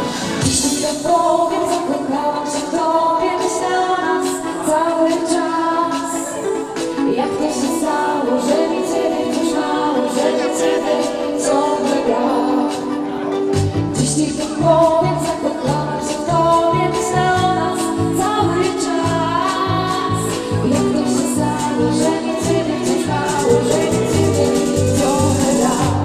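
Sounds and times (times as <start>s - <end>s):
pop song with singing: 0.0s - 26.0s.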